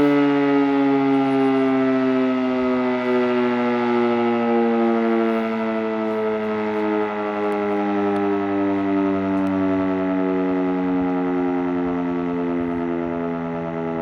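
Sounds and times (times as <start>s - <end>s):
civil defence siren wailing: 0.0s - 14.0s.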